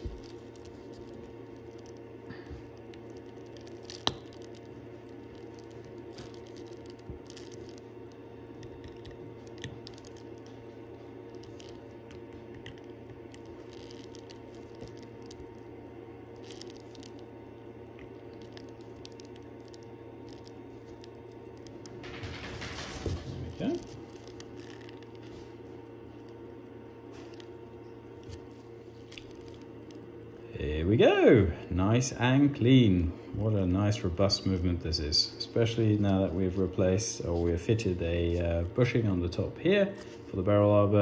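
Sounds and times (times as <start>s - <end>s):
low background hum: 0.0s - 41.0s.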